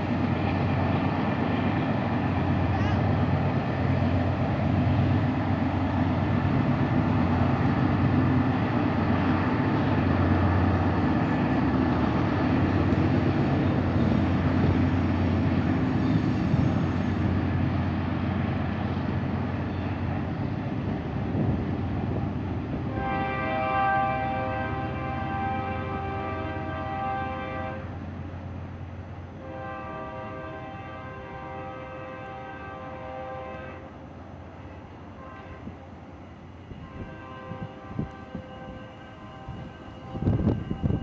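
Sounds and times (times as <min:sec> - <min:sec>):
locomotive engines droning: 0:00.0 - 0:41.0.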